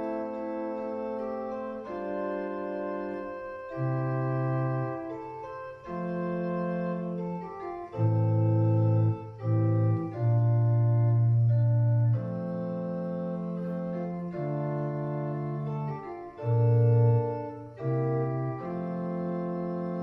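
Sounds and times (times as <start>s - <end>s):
deep organ bass notes: 0.0s - 20.0s
organ playing held chords: 0.0s - 20.0s.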